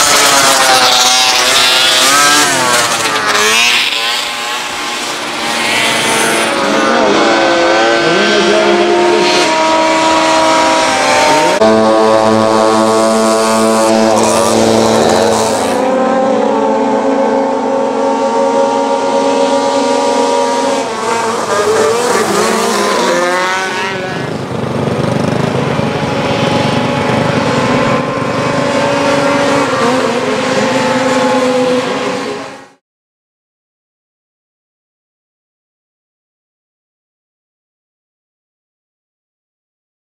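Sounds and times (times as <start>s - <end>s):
snowmobile engines revving: 0.0s - 32.8s.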